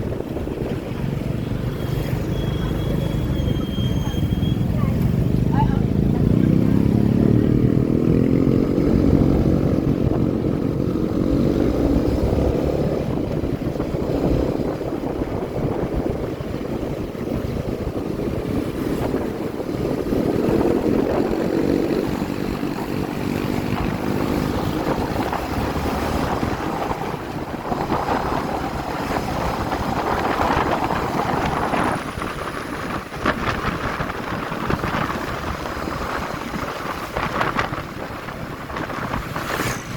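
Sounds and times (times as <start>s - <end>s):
wind rushing over microphone: 0.0s - 39.9s
motorcycle engine: 5.0s - 39.9s.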